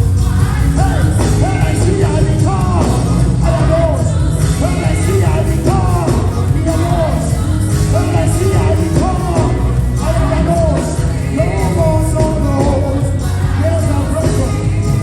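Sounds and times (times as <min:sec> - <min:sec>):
bass-heavy band accompaniment: 0:00.0 - 0:15.0.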